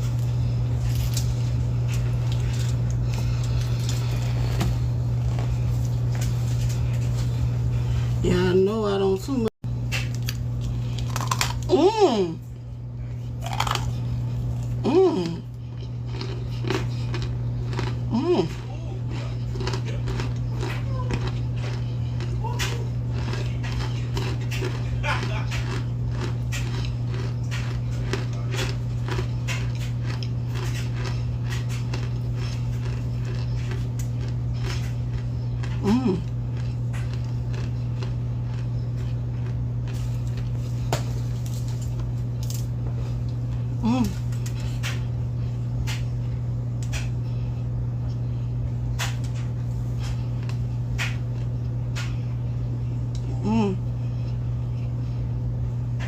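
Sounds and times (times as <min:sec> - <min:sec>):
crunchy chewing: 0:00.0 - 0:07.8, 0:09.8 - 0:11.7, 0:13.1 - 0:47.3, 0:48.0 - 0:55.2
steady low hum: 0:00.0 - 0:56.0.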